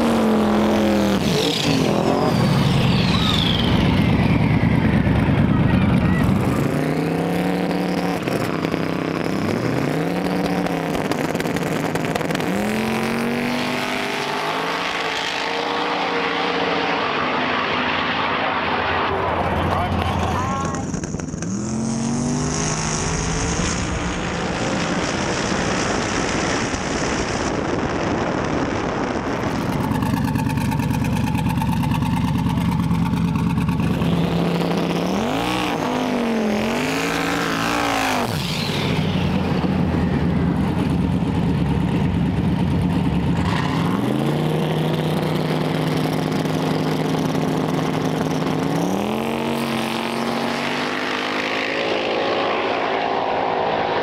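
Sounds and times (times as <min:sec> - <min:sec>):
engine revving up and down: 0:00.0 - 0:32.2, 0:33.3 - 0:40.3, 0:43.3 - 0:54.0.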